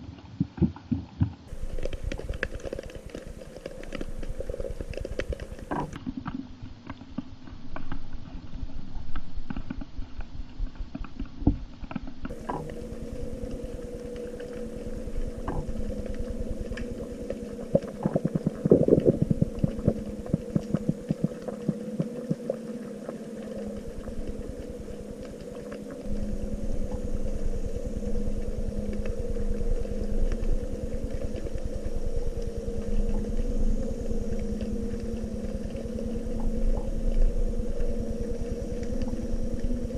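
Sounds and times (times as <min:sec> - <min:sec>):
boat engine drone underwater: 0:01.4 - 0:39.9
underwater crackle of clicks: 0:01.5 - 0:39.9.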